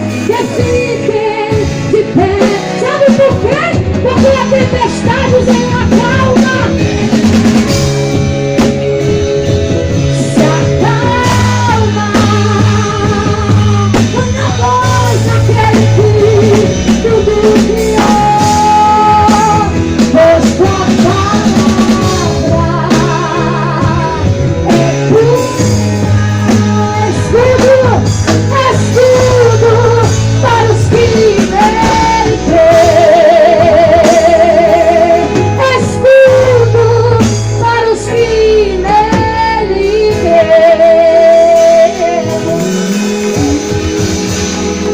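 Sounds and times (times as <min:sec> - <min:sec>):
person singing with vibrato: 0:00.0 - 0:08.1, 0:09.0 - 0:44.9
bass: 0:00.0 - 0:44.9
drum kit: 0:00.0 - 0:44.9
guitar: 0:00.0 - 0:44.9.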